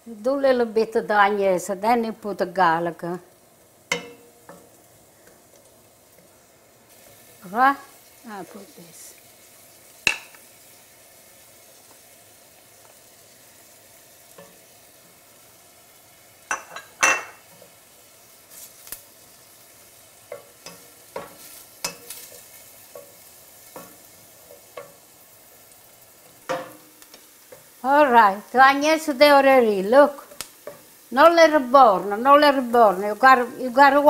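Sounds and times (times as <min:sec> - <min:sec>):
onions sizzling in oil: 0:00.0 - 0:34.0.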